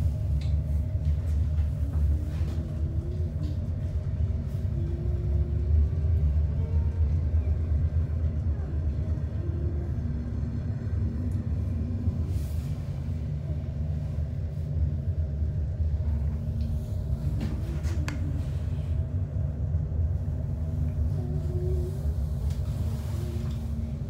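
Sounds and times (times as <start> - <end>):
cable car cabin rumble and hum: 0.0 - 24.0.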